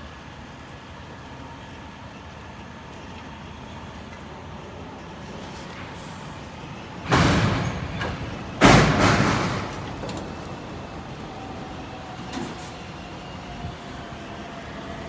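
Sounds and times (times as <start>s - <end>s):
truck engine running: 0.1s - 15.0s.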